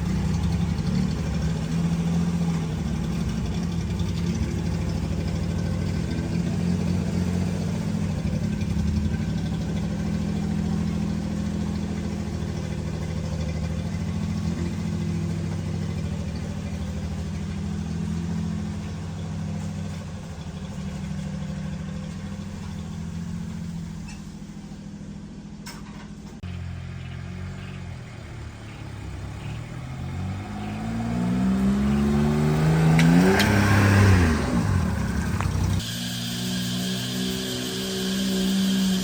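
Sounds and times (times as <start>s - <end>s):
truck engine idling and revving: 0.0s - 39.0s.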